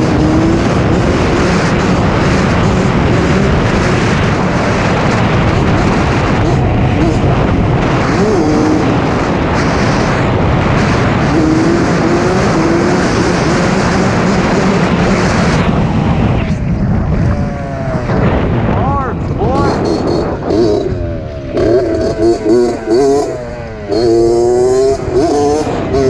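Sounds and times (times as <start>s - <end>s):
dirt bike engine revving: 0.0s - 26.0s
loud rushing noise: 0.0s - 26.0s.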